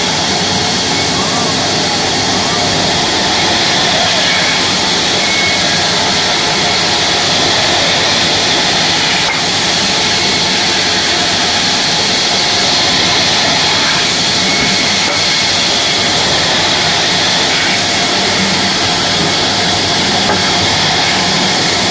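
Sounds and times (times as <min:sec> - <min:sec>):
band saw cutting wood: 0:00.0 - 0:21.9.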